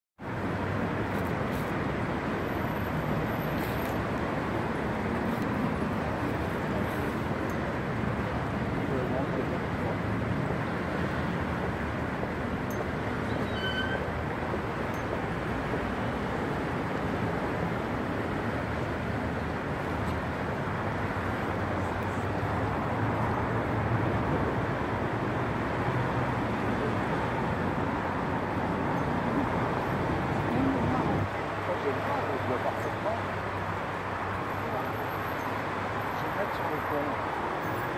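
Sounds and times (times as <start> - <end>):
city traffic rumble: 0.2 - 37.9.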